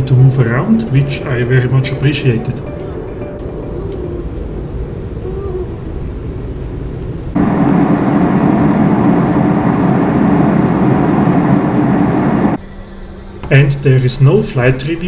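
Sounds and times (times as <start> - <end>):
airplane cabin engine rush: 0.0 - 15.0.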